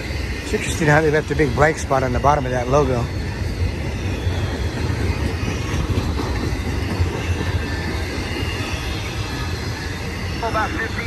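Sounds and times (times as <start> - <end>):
freight train cars rolling on rails: 0.0 - 11.0.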